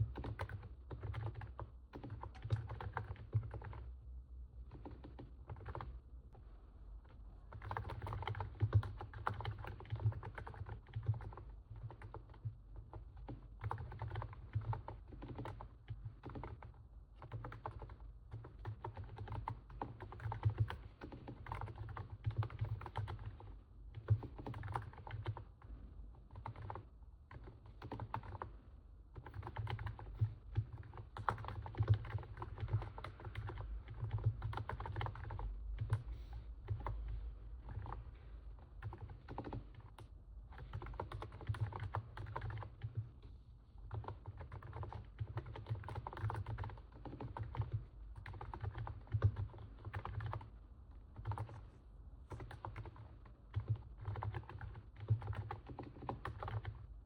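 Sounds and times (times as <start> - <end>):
soft keyboard keystrokes: 0.0 - 3.9, 4.6 - 6.0, 7.0 - 56.9.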